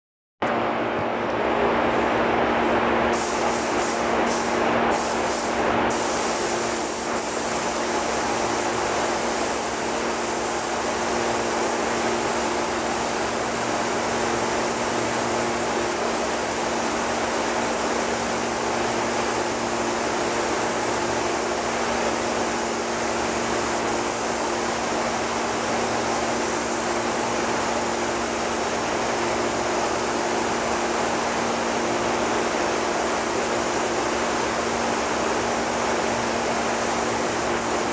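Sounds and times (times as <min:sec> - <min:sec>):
spray gun hissing: 0:03.1 - 0:37.9.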